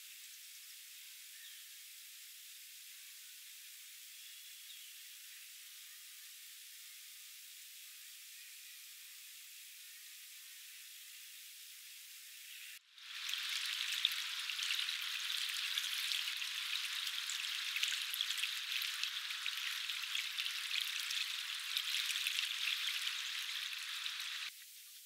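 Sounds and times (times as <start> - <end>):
water crackling hiss: 0.0 - 25.0.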